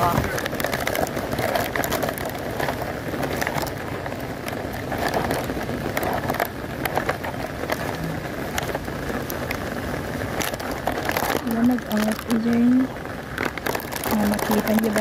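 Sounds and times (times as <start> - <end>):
heavy rain falling: 0.0 - 15.0
raindrops hitting close: 0.0 - 15.0.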